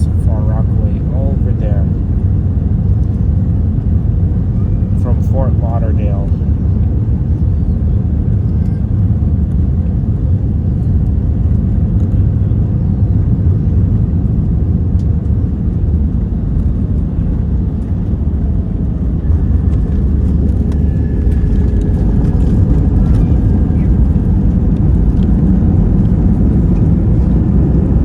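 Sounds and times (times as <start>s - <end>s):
aircraft cabin rumble: 0.0s - 28.0s.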